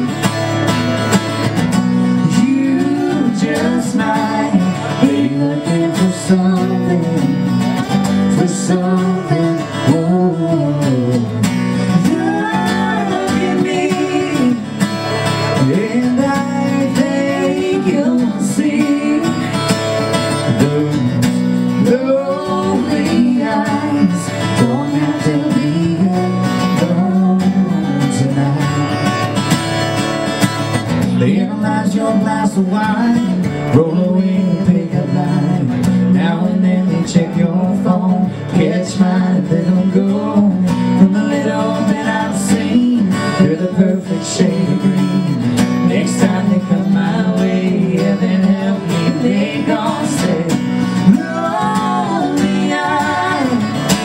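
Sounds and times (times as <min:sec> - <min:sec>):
guitar accompaniment: 0:00.0 - 0:54.0
person singing country song: 0:00.0 - 0:54.0.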